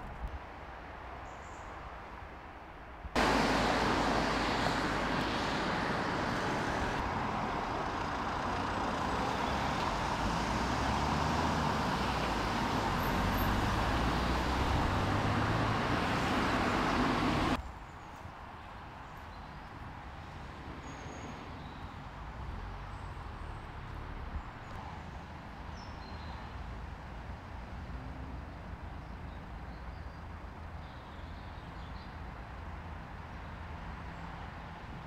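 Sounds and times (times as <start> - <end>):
cars passing on a road: 0.0 - 35.0.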